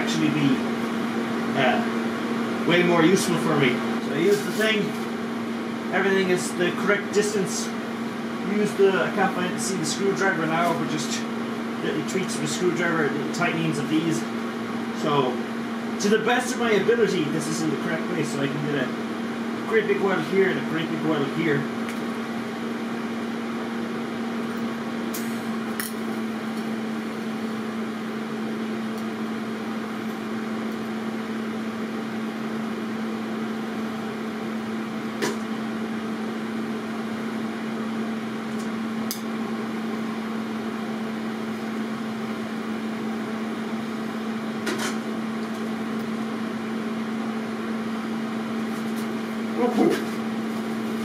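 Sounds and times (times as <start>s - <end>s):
welding hum with hiss: 0.0s - 51.0s.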